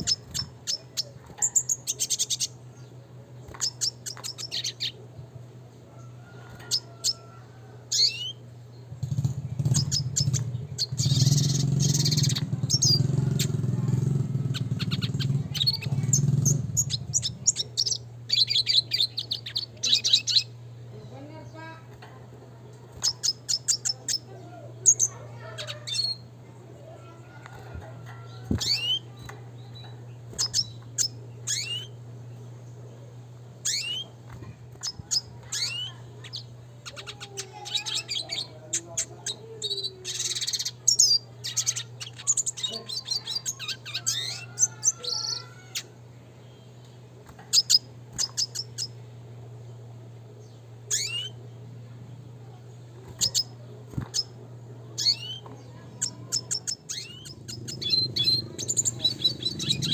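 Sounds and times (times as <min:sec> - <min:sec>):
bird chirping and trilling: 0:00.0 - 0:05.0, 0:06.0 - 0:22.0, 0:22.9 - 0:32.8, 0:33.5 - 0:49.8, 0:50.4 - 0:51.8, 0:52.6 - 0:59.9
steady low hum: 0:00.0 - 0:59.9.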